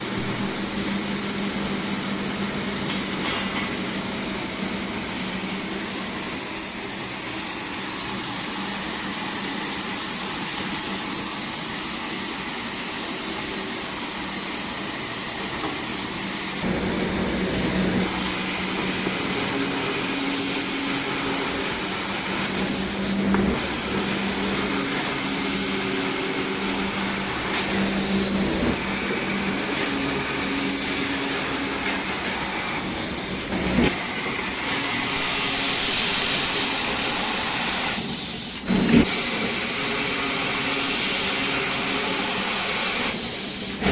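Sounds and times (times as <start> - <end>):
steel cutting machine running: 0.0 - 43.9.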